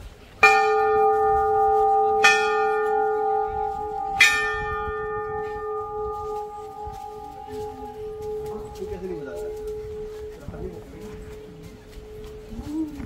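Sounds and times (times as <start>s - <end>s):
large brass bell ringing: 0.4s - 13.0s.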